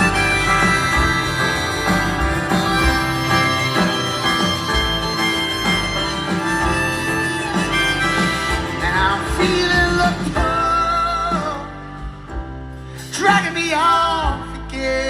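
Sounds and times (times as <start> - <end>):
sustained lead melody: 0.0 - 12.8
strummed chords: 0.0 - 13.5
live band playing: 0.0 - 14.2.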